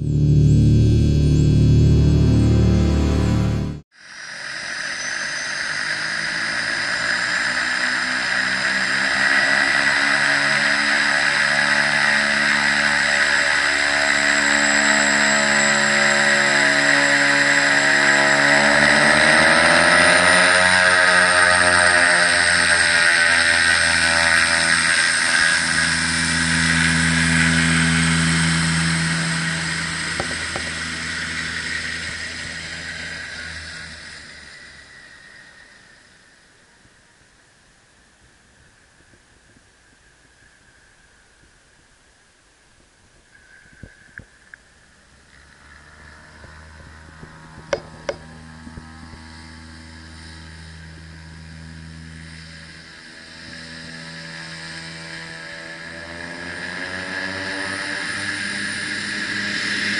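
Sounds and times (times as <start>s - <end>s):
small plane engine running: 0.0s - 37.0s, 45.0s - 59.9s.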